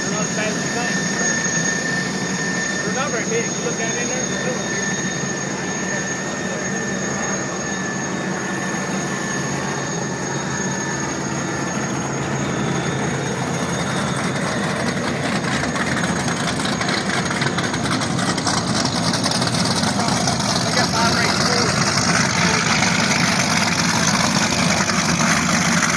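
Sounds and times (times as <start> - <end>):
boat engine rumble: 0.0 - 25.9
high turbine whine: 0.0 - 25.9.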